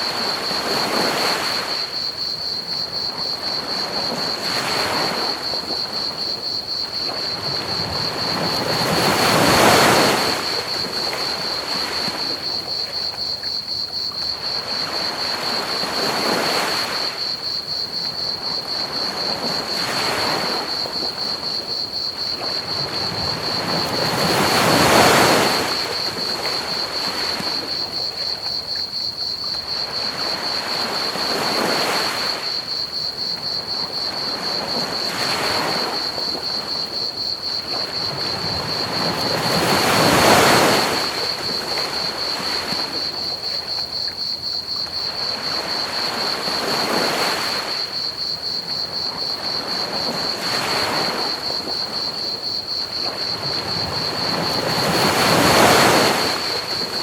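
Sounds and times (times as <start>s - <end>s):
ocean waves breaking on beach: 0.0s - 28.8s, 29.4s - 57.0s
crickets chirping: 0.0s - 57.0s.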